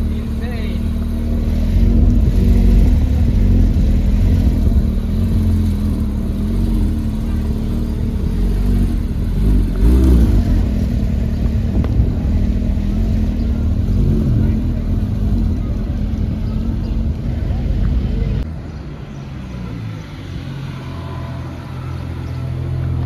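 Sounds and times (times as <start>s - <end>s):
car engine revving: 0.0s - 18.5s
street traffic: 0.0s - 23.0s.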